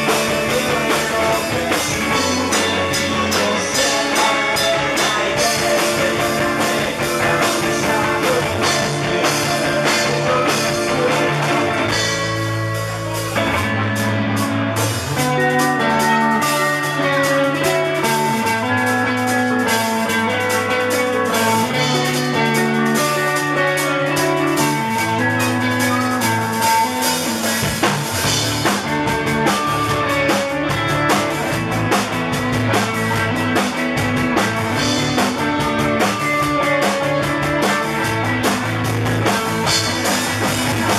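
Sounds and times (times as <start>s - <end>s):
drum kit: 0.0s - 40.9s
rock band playing: 0.0s - 40.9s.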